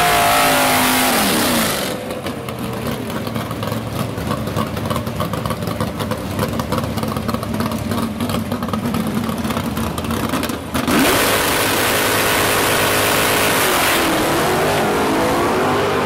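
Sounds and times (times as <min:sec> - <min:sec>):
car engine idling unevenly: 0:00.0 - 0:16.0.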